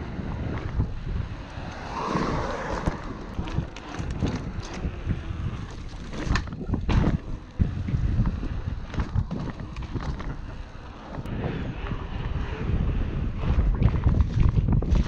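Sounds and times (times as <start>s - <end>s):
bike clicks and rattles: 0.0s - 15.0s
bike tyres rolling on concrete: 0.0s - 15.0s
wind buffeting microphone: 0.0s - 15.0s.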